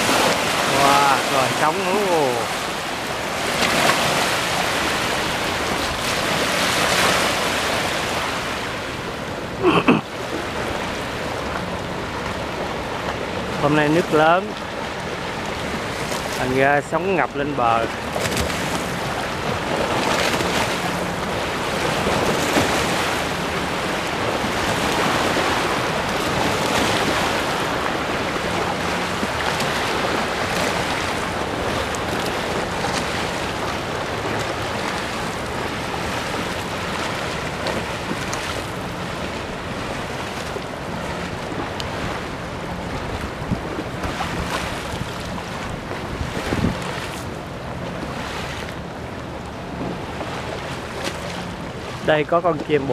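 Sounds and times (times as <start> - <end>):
wind buffeting microphone: 0.0 - 9.4, 10.2 - 52.9
waves washing over walkway: 0.0 - 52.9.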